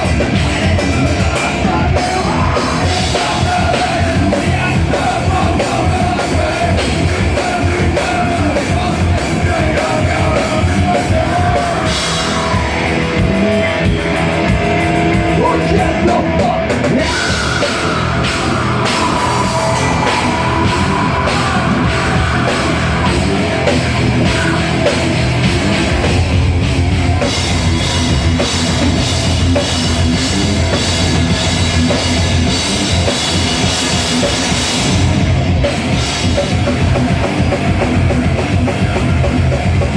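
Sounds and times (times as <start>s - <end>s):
distorted electric guitars: 0.0s - 39.9s
drum kit: 0.0s - 39.9s.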